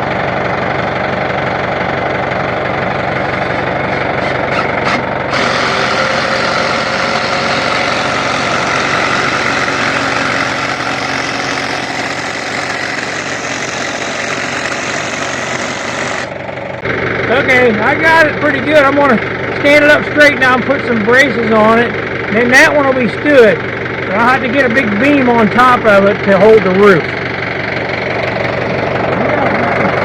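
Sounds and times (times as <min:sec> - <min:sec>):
engine knocking idle: 0:00.0 - 0:30.0.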